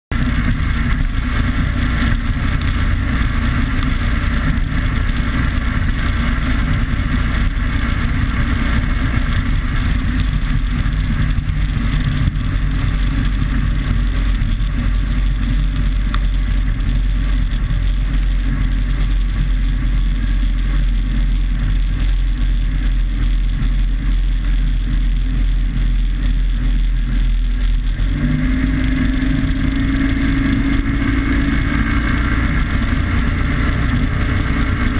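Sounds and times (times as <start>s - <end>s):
powerboat engine running: 0.1s - 34.9s
wind rush and spray: 0.1s - 34.9s.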